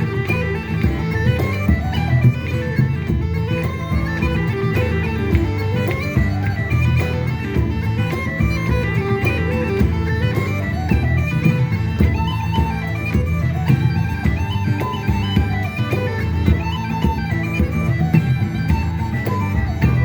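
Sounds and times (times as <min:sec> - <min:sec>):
bagpipes playing folk tune: 0:00.0 - 0:20.0.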